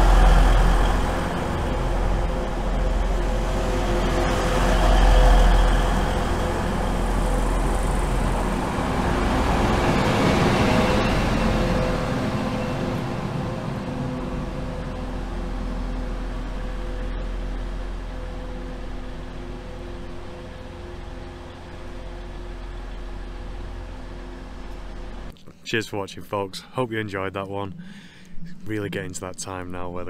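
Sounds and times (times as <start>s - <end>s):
diesel train engines rumbling: 0.0s - 30.0s.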